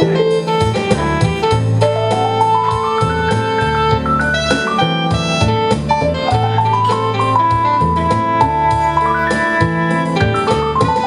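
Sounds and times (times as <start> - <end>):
live instrumental band music: 0.0 - 11.0.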